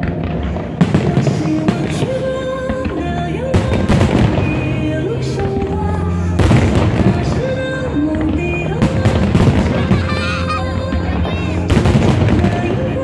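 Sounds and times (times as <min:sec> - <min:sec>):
fireworks bursting: 0:00.0 - 0:13.0
music playing: 0:00.0 - 0:13.0.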